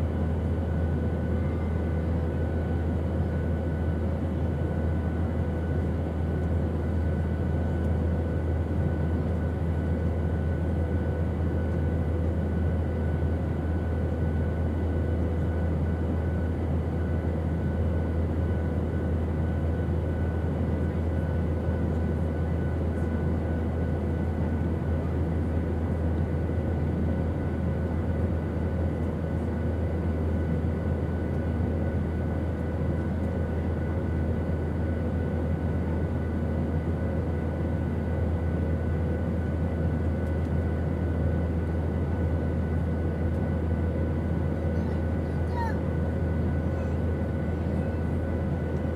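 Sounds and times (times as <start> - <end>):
airplane engine drone: 0.0 - 48.9.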